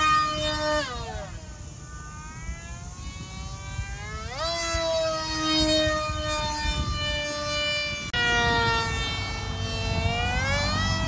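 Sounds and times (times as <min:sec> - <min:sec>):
model plane motor whining: 0:00.0 - 0:11.0.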